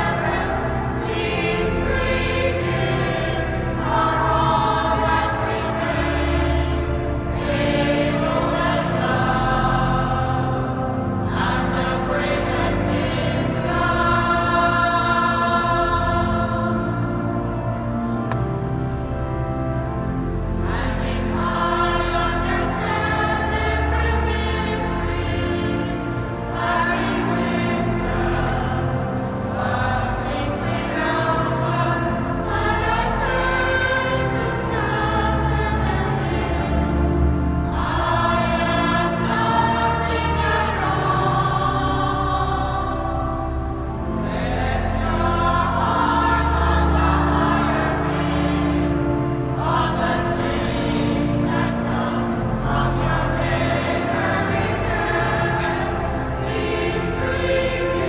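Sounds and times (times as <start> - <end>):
church choir singing: 0.0 - 58.0
sustained low accompaniment notes: 0.0 - 58.0.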